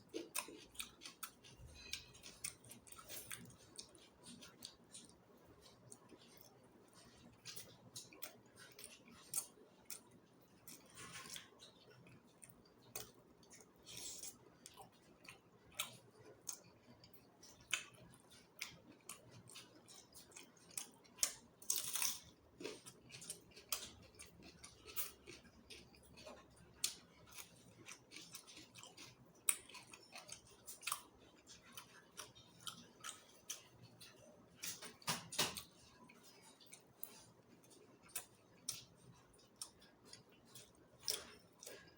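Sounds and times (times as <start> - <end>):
chewing and mouth sounds: 0.0 - 41.9.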